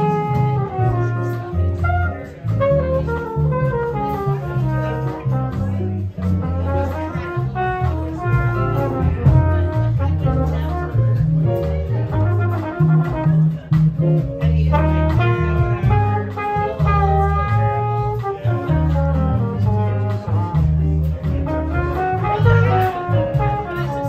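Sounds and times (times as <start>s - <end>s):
electric bass notes: 0.0s - 24.0s
jazz combo playing bossa nova: 0.0s - 24.0s
trumpet melody: 0.0s - 24.0s.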